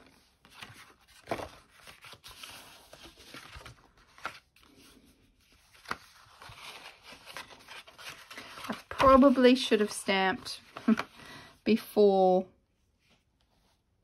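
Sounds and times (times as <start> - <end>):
paper rustling: 0.0 - 11.4.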